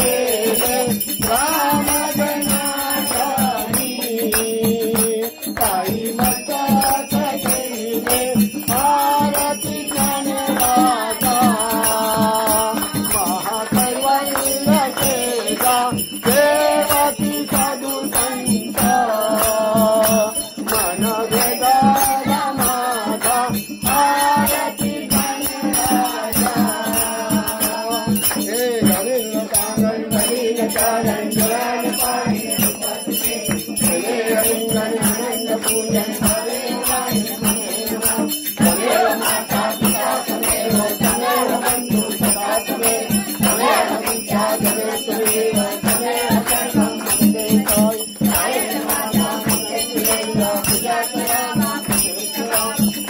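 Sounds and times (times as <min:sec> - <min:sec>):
hand clapping: 0:00.0 - 0:53.0
women singing: 0:00.0 - 0:53.0.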